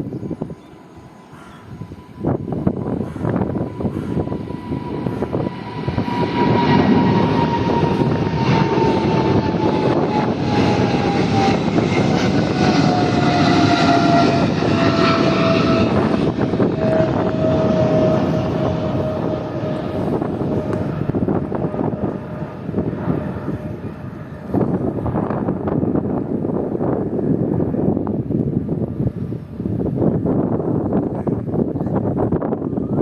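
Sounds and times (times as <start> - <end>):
jet engines roaring with whine: 0.0 - 33.0.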